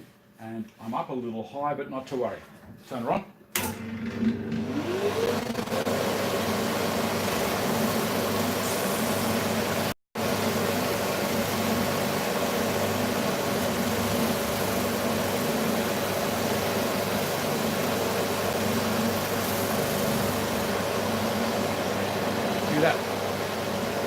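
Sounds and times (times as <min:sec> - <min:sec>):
bobbin sander motor hum: 0:03.6 - 0:24.0.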